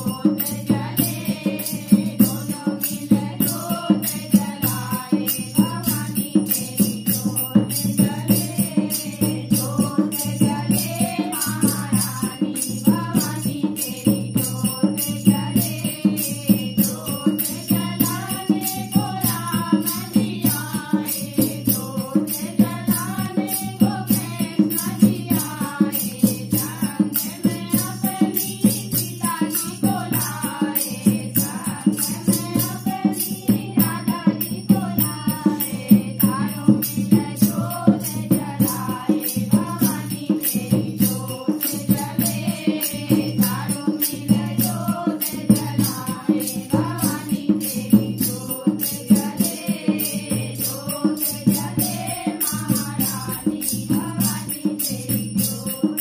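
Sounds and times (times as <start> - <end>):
barrel drum: 0.0 - 56.0
women singing devotional song: 0.0 - 56.0.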